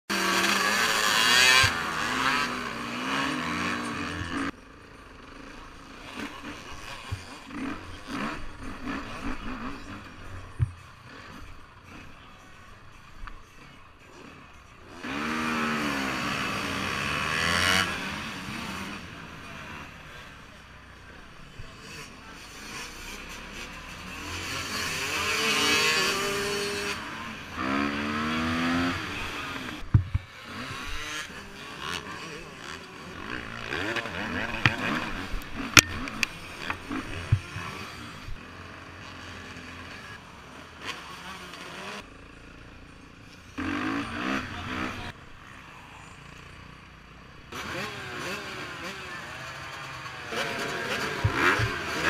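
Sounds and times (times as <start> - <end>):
dirt bike engine revving: 0.1 - 13.0, 14.1 - 42.4, 43.4 - 52.0.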